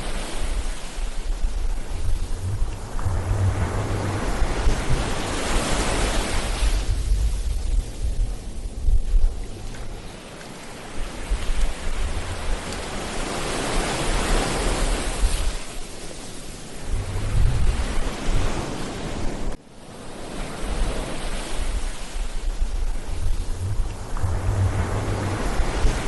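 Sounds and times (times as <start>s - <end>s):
wind rumbling on microphone: 0.0s - 19.6s, 20.2s - 26.0s
ocean waves breaking: 0.0s - 26.0s.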